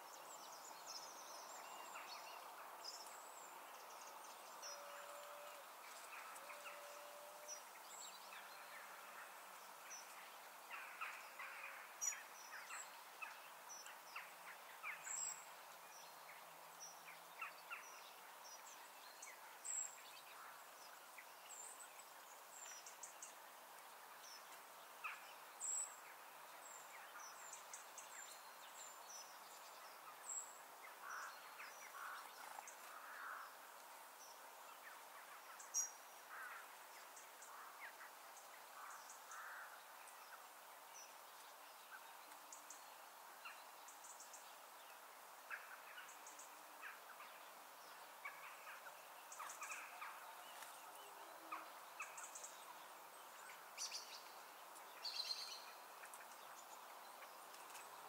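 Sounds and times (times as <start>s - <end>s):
faint open-air hush: 0.0s - 58.0s
wild birds chirping: 0.0s - 58.0s.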